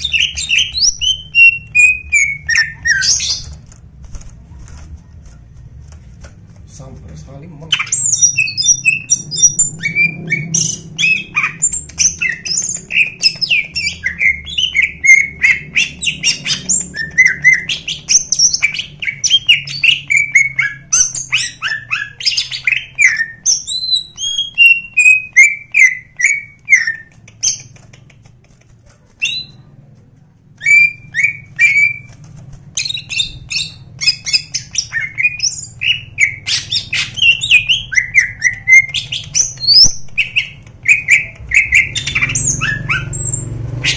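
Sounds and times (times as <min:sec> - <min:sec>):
bird singing chattering song: 0:00.0 - 0:03.7, 0:06.8 - 0:28.5, 0:29.2 - 0:29.7, 0:30.6 - 0:43.9.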